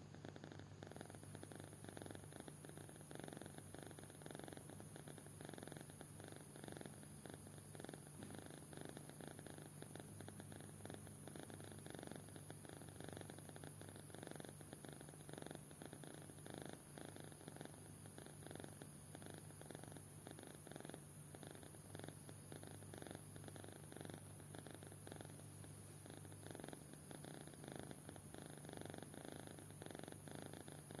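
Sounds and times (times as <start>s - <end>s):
kitten snoring softly: 0.0s - 31.0s.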